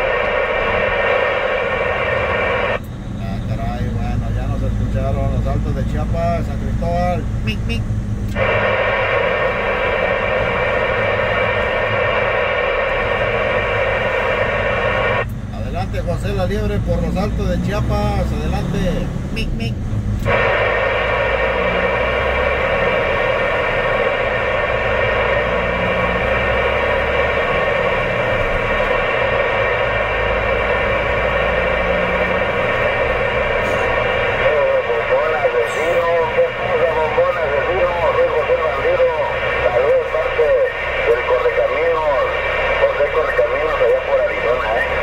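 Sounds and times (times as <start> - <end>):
low hum: 0.0 - 45.0
radio static hiss: 0.0 - 45.0
vehicle engine drone: 0.0 - 45.0.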